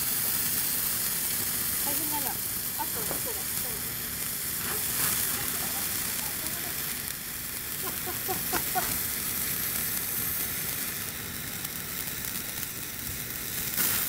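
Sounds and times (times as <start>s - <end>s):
firework crackle: 0.0s - 14.0s
firework spraying hiss: 0.0s - 14.0s.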